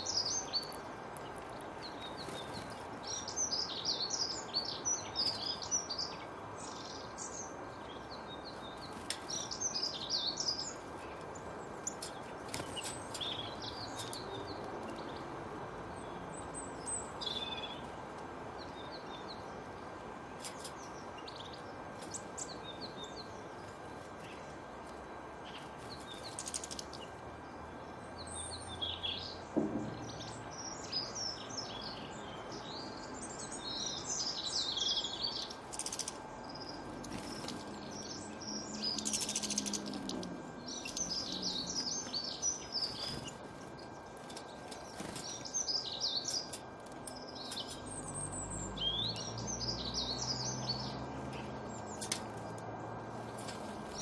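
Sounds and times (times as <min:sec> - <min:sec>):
small birds chirping: 0:00.0 - 0:54.0
steady background hiss: 0:00.0 - 0:54.0.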